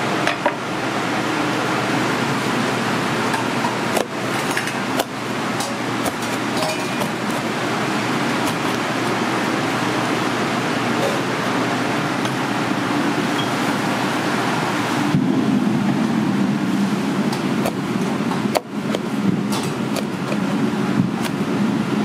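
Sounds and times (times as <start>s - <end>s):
kitchen ventilation fan: 0.0s - 22.0s.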